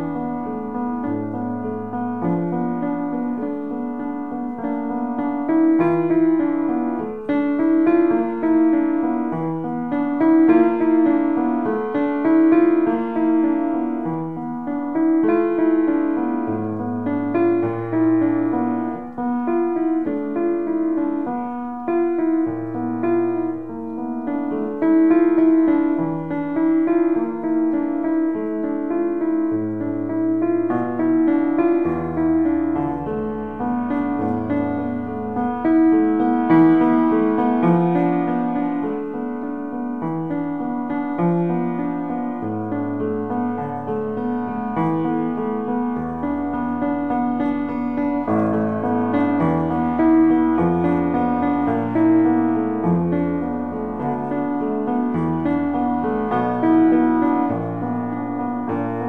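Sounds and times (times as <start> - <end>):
solo piano improvisation: 0.0 - 59.0.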